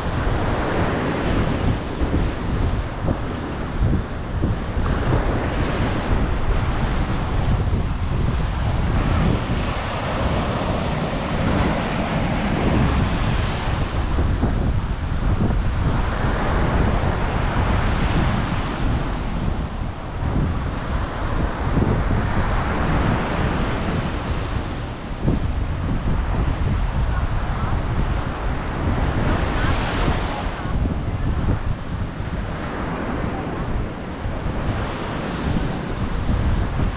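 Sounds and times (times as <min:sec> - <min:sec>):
ocean surf washing ashore: 0:00.0 - 0:36.9
wind buffeting microphone: 0:00.0 - 0:36.9.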